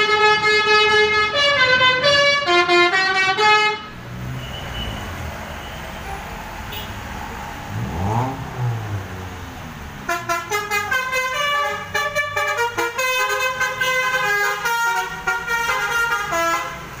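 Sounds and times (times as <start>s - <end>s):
multi-tone bus horn tune: 0.0s - 7.1s, 10.0s - 17.0s
bus engine running: 3.3s - 17.0s.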